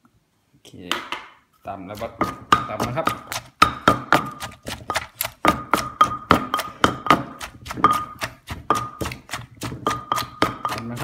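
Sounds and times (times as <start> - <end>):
pestle pounding in mortar: 1.0 - 11.0
mortar ringing tone: 1.9 - 11.0.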